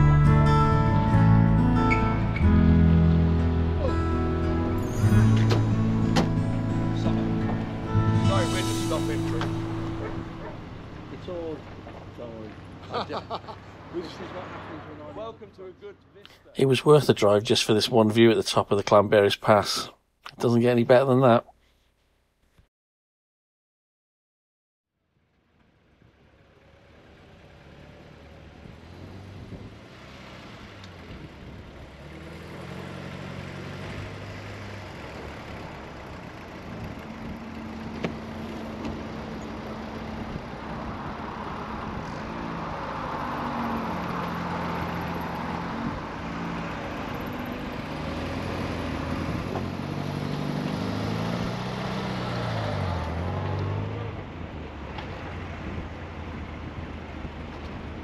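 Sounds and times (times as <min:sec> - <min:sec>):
car engine accelerating: 0:00.0 - 0:15.4, 0:26.0 - 0:58.0.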